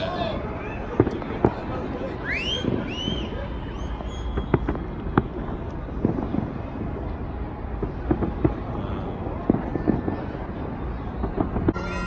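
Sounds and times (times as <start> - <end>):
fireworks popping: 0.9 - 12.0.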